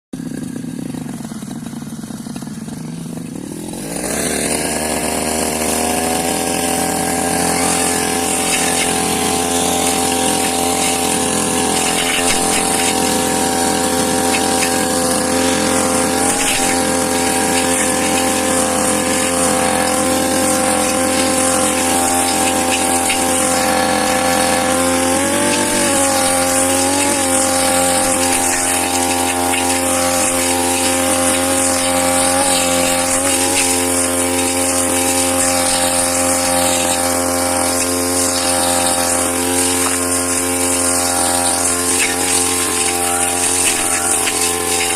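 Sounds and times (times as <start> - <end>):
grass cutter engine revving: 0.2 - 44.9.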